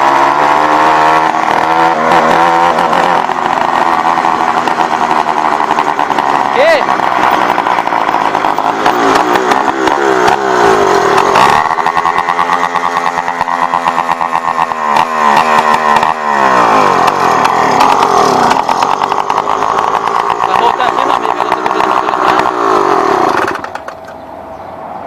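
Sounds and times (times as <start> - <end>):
two-stroke engine revving: 0.0 - 24.2.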